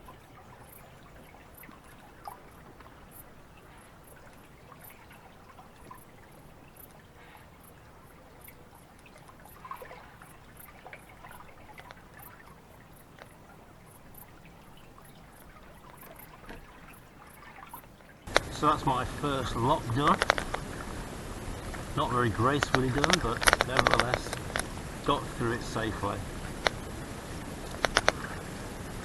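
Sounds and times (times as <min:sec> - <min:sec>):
small knocks and splashes: 0:00.0 - 0:28.5
trickling and pouring water: 0:00.0 - 0:29.0.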